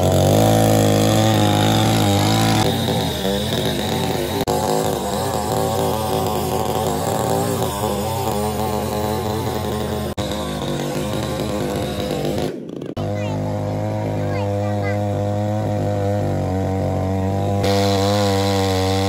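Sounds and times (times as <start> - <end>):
small petrol engine running fast: 0.0 - 19.0.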